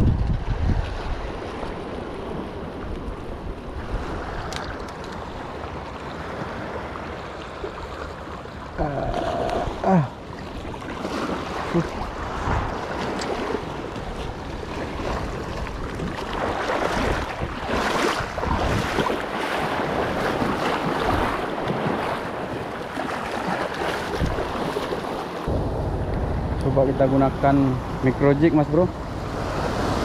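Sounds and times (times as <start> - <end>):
wind buffeting microphone: 0.0 - 7.3, 9.1 - 30.0
sea waves washing: 0.6 - 30.0.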